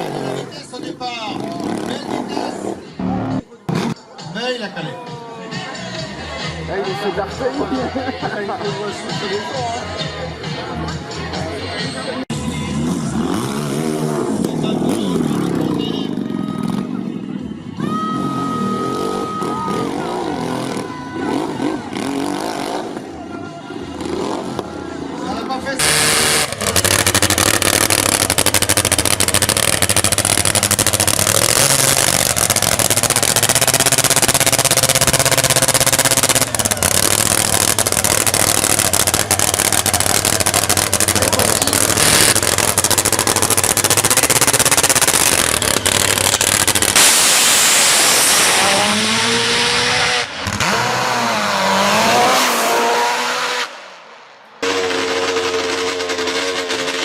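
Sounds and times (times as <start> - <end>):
motorbike engine revving: 0.0 - 4.0, 12.6 - 17.0, 18.2 - 23.2, 23.8 - 54.0, 54.6 - 57.0.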